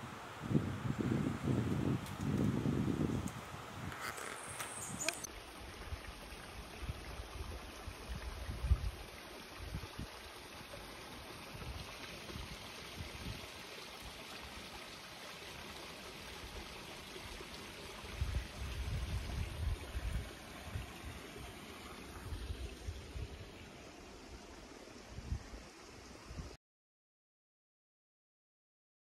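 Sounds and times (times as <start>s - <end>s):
stream trickling over rocks: 0.0s - 26.6s.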